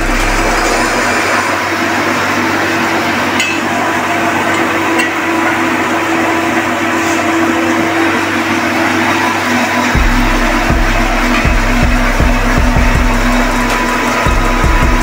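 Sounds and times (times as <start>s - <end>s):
machinery hum and hiss: 0.0s - 15.0s.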